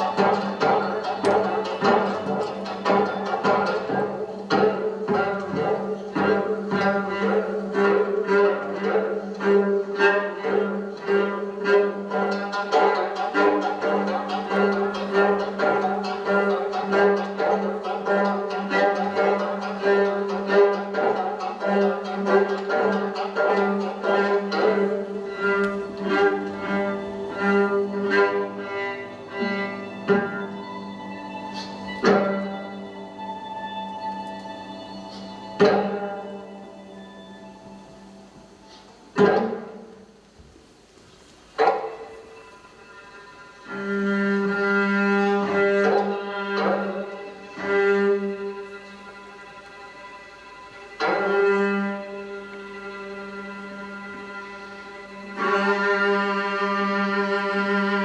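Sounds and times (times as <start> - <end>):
bowed strings music: 0.0 - 58.0.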